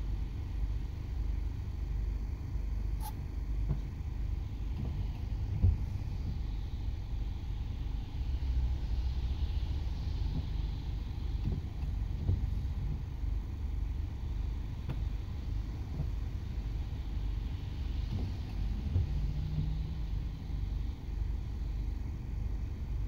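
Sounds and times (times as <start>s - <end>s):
faint hiss: 4.0s - 23.0s.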